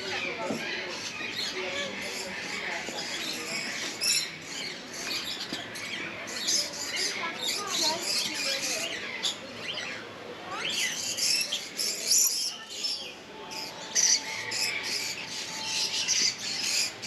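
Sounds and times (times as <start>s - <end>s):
parrots chirping and screeching: 0.0s - 10.0s, 10.6s - 17.0s.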